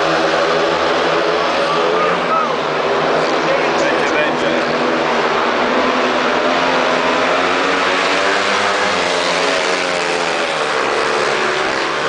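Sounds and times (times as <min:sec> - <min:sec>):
motorcycle engines racing: 0:00.0 - 0:12.0.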